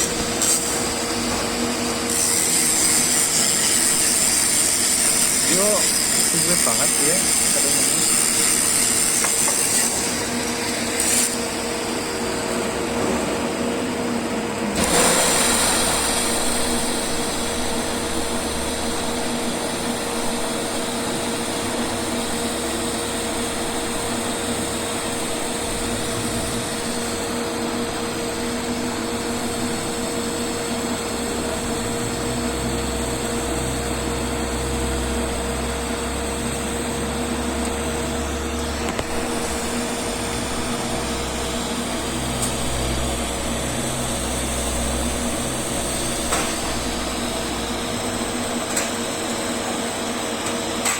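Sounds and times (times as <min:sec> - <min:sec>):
welding arc hissing and humming: 0:00.0 - 0:12.9, 0:14.6 - 0:50.9.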